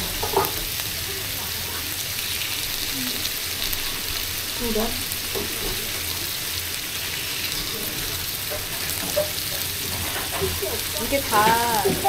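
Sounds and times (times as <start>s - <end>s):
squid sizzling on griddle: 0.0s - 12.0s.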